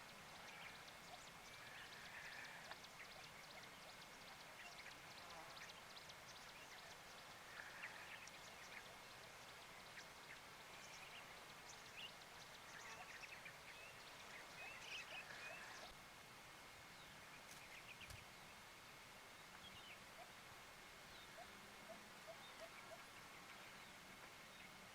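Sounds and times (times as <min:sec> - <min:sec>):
faint steady hiss: 0:00.0 - 0:24.9.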